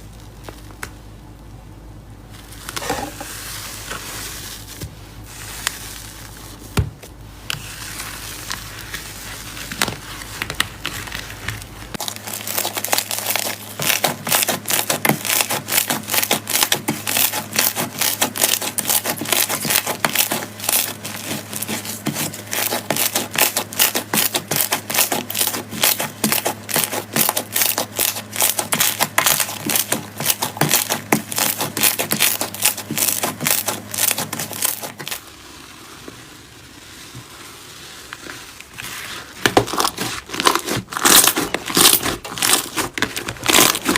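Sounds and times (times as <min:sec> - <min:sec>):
slime squishing: 0:02.2 - 0:43.9
crisp slime crackles: 0:02.3 - 0:43.9.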